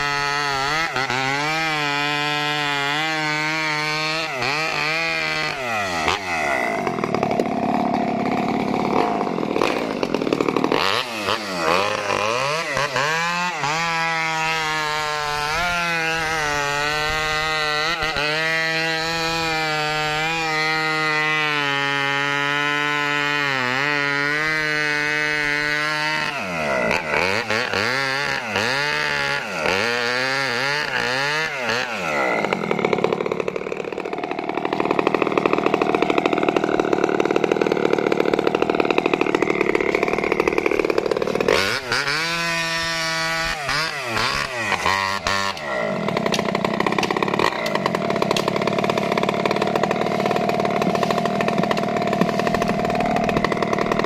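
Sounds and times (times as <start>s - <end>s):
chainsaw cutting wood: 0.0s - 54.0s
chainsaw running: 0.0s - 54.0s.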